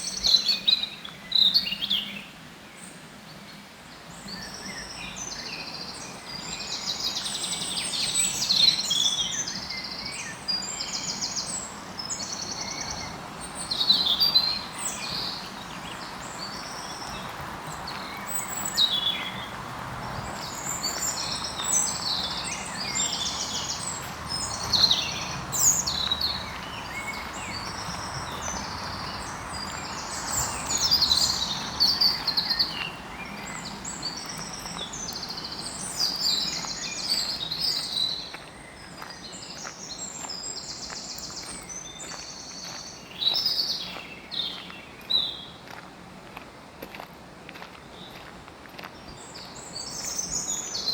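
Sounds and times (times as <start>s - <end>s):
songbirds singing: 0.0s - 45.9s, 47.6s - 50.9s.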